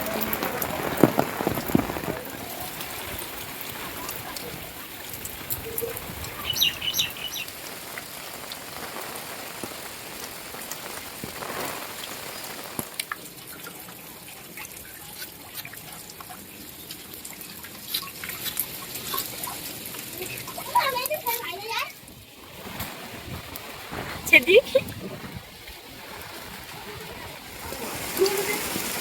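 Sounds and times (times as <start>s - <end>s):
drops and drips striking surfaces: 0.0s - 29.0s
heavy rain falling: 0.0s - 29.0s.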